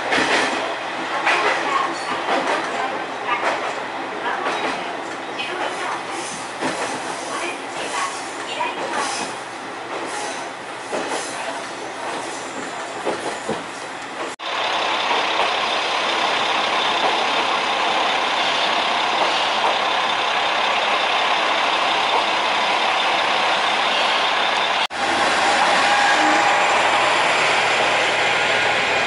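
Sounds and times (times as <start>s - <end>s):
diesel railcar running on track: 0.0s - 29.0s.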